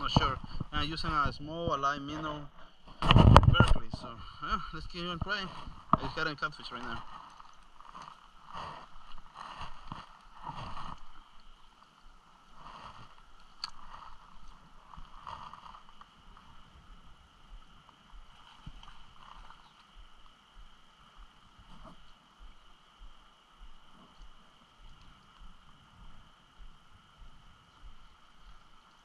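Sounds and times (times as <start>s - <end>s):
water lapping and gurgling: 0.0s - 29.0s.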